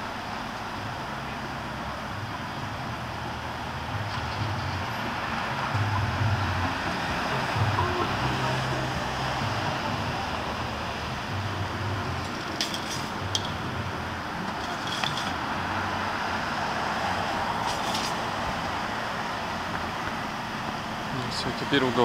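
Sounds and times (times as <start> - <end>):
street noise: 0.0 - 22.0
vehicle engine hum: 0.0 - 22.0.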